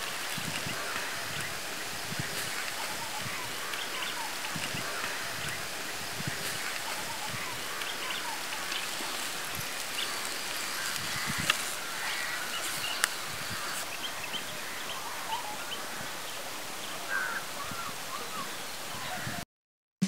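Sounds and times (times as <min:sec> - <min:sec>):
birds chirping: 0:00.0 - 0:19.4.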